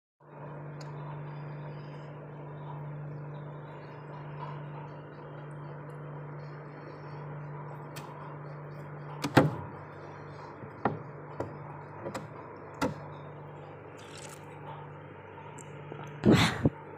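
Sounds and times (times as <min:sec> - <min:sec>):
freezer humming: 0:00.2 - 0:16.9.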